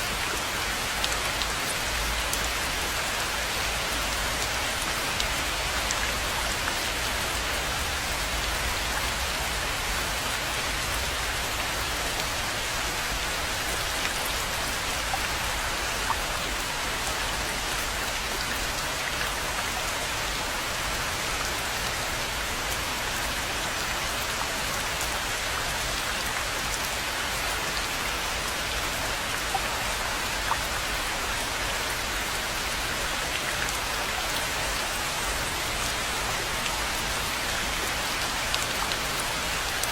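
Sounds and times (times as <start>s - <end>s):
rain falling on a pond: 0.0s - 39.9s.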